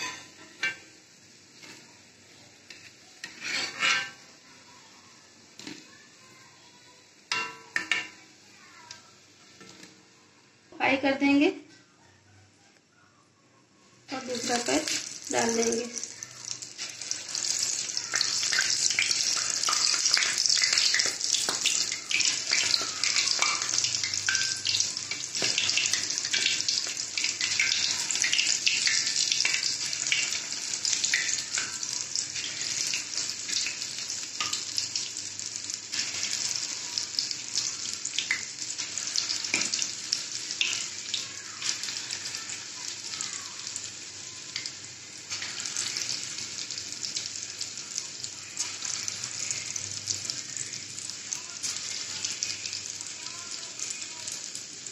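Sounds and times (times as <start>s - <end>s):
batter frying in hot oil: 0.0s - 10.0s, 14.1s - 54.9s.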